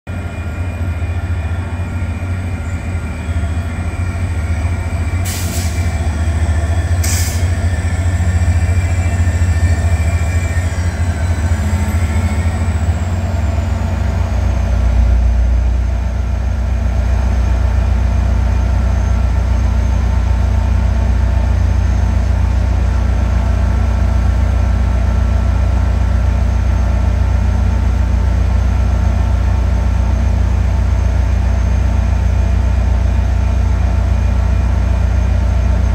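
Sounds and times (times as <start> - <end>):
diesel engine droning: 0.1 - 35.9.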